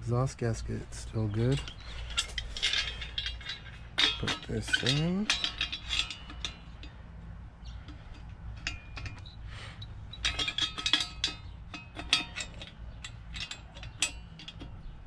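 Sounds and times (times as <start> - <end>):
light metallic clinks: 1.0 - 7.0, 7.6 - 15.0.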